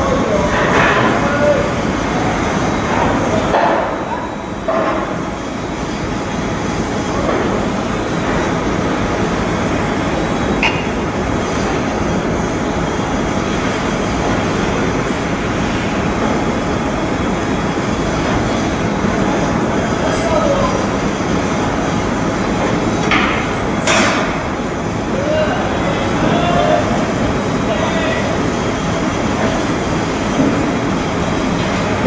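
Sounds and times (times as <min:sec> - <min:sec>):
shipyard machinery noise: 0:00.0 - 0:32.0.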